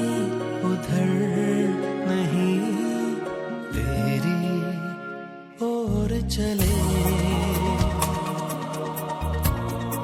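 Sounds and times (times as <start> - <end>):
slow tender instrumental music: 0.0 - 10.0.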